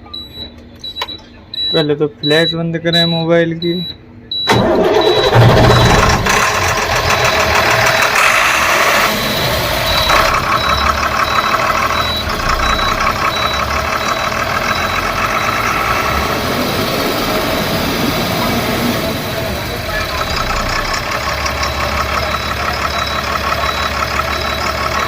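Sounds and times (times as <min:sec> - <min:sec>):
high-pitched warning beeper: 0:00.1 - 0:25.0
diesel bus engine idling: 0:04.3 - 0:25.0.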